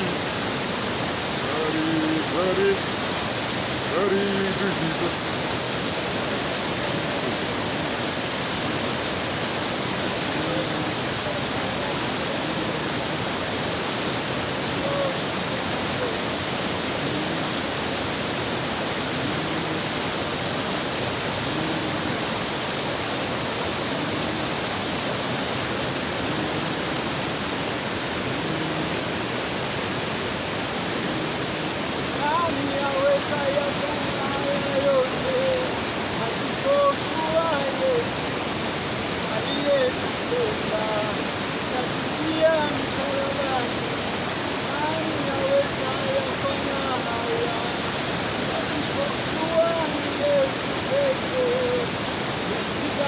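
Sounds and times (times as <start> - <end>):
waterfall pouring: 0.0 - 53.0.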